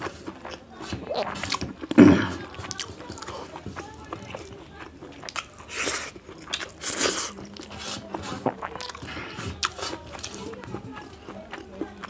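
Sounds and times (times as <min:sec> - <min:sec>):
person chewing food: 0:00.0 - 0:12.0
wet mouth clicks: 0:00.0 - 0:12.0.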